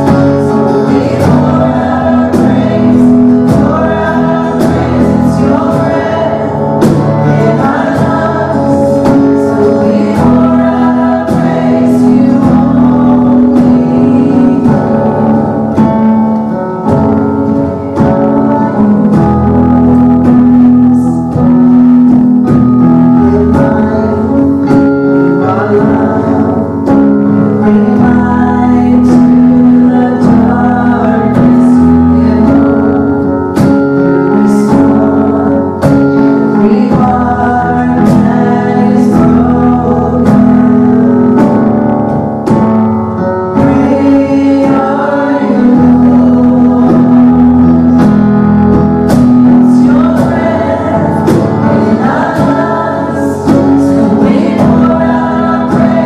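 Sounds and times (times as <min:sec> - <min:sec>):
keyboard: 0:00.0 - 0:56.0
people singing: 0:00.0 - 0:56.0
strummed acoustic guitar: 0:00.0 - 0:56.0.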